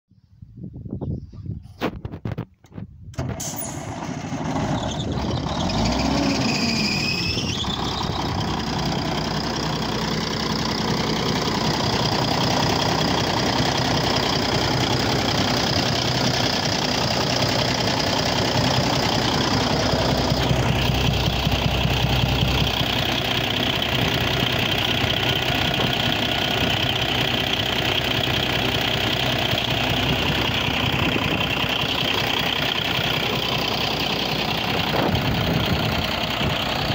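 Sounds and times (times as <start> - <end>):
high engine whine: 3.1 - 36.9
diesel truck engine idling: 3.2 - 36.9.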